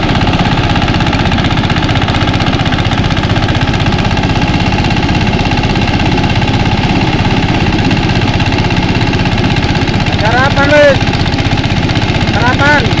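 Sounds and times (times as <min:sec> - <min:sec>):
thresher engine running: 0:00.0 - 0:13.0.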